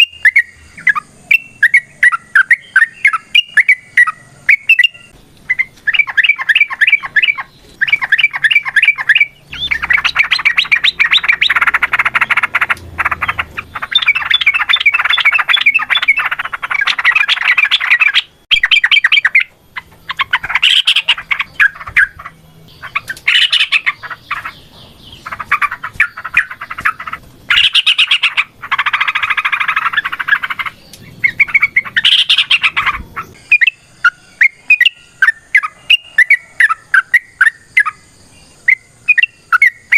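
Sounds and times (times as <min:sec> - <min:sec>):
bird singing rapid chattering phrases: 0:00.0 - 0:39.9.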